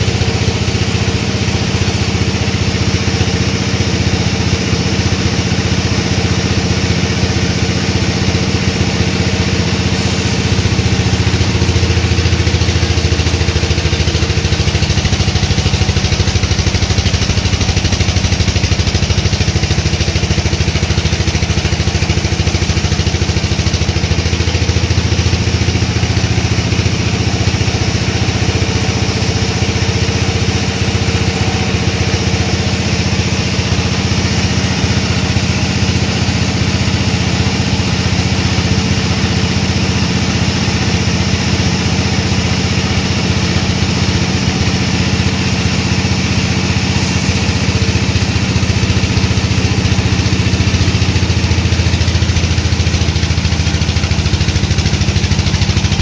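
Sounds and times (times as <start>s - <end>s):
sawmill machinery hum: 0.0s - 56.0s.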